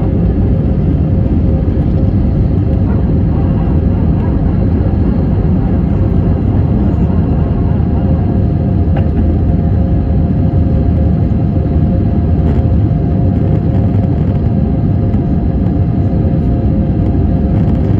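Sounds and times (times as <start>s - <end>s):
jet engines rumbling: 0.0s - 17.9s.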